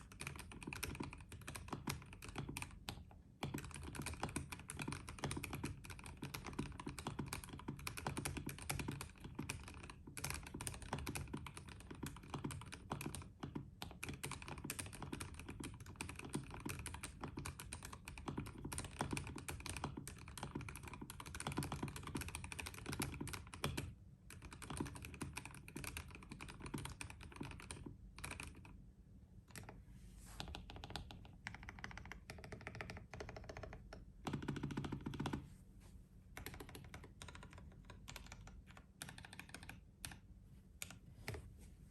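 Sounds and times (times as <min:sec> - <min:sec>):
mechanical keyboard typing: 0:00.0 - 0:28.8, 0:29.5 - 0:29.8, 0:30.4 - 0:35.4, 0:36.3 - 0:41.4.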